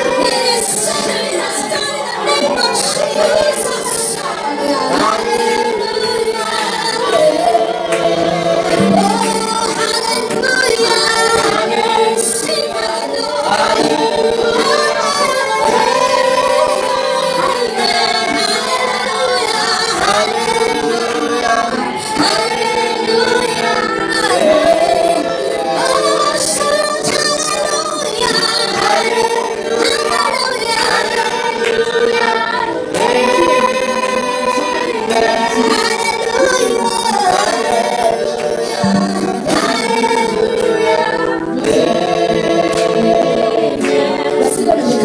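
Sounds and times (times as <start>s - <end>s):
women singing together: 0.0s - 45.0s
worship music: 0.0s - 45.0s.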